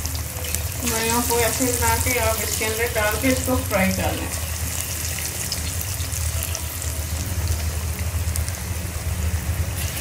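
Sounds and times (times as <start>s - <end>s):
paste deep-frying in oil: 0.0s - 10.0s.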